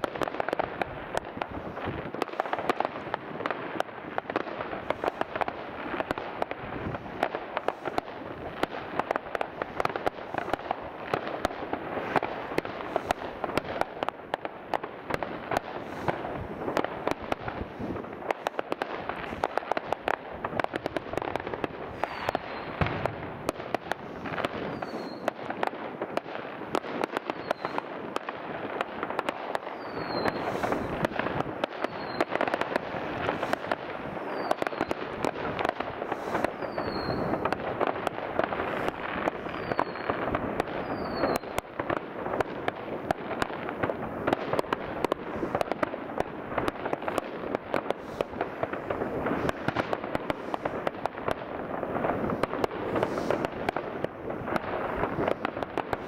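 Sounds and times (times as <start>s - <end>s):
firecrackers crackling: 0.0s - 56.0s
firework bangs: 0.0s - 56.0s.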